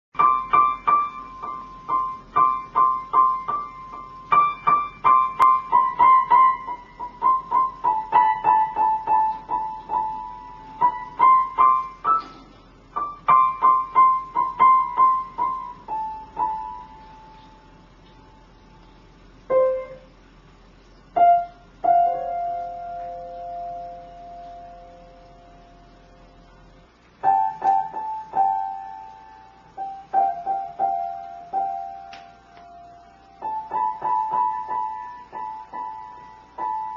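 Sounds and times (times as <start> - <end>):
piano notes: 0.2 - 36.9.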